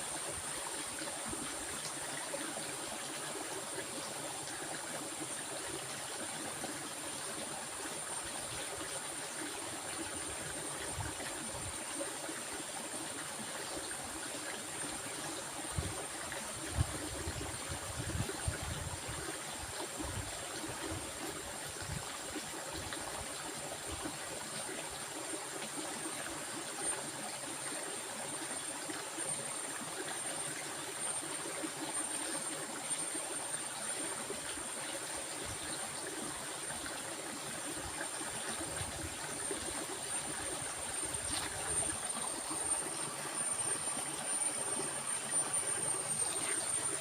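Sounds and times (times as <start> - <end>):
stream water flowing: 0.0 - 47.0.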